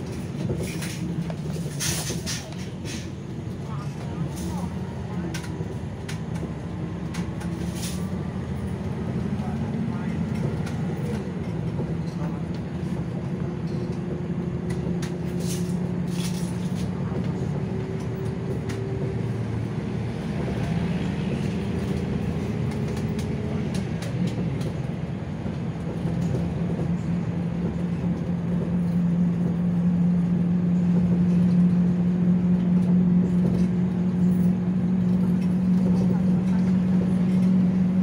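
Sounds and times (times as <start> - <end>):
bus engine drone: 0.0 - 38.0
road noise: 0.0 - 38.0.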